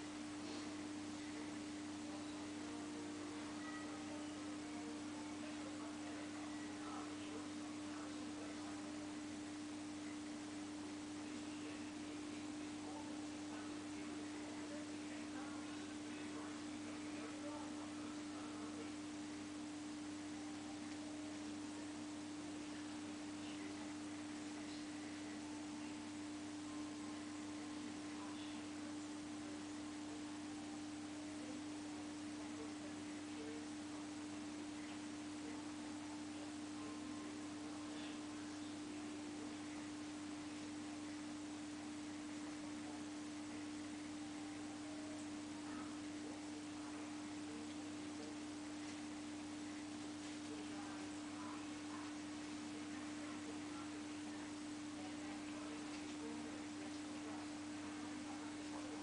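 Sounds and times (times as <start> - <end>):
steady mid-pitched hum: 0.0 - 59.0.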